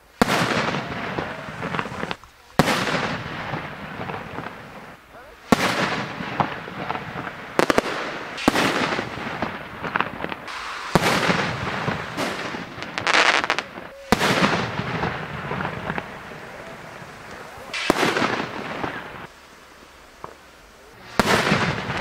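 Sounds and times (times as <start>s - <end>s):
fireworks bangs: 0.0s - 22.0s
fireworks hissing and fizzing: 0.0s - 22.0s.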